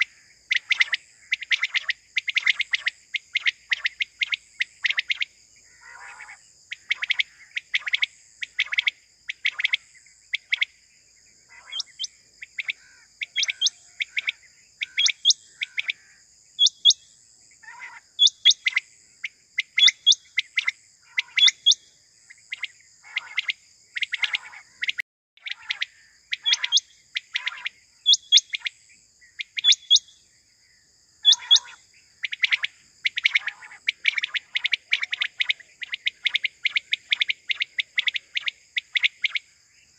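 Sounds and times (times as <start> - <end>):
quail calling: 0.0 - 9.8, 11.5 - 17.0, 17.6 - 18.8, 19.6 - 21.8, 22.5 - 28.7, 29.4 - 30.1, 31.2 - 39.5.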